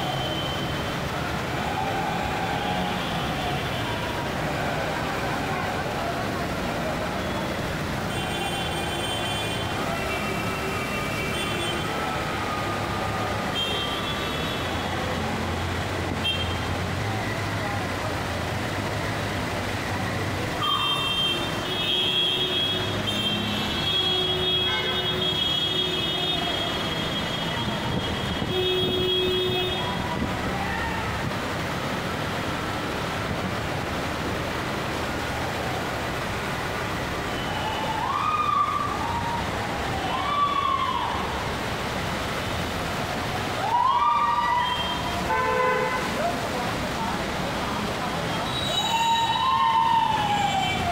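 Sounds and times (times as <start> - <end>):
heavy rain: 0.0 - 50.9
rushing water and spray: 0.0 - 50.9
vehicles on flooded road: 0.0 - 50.9.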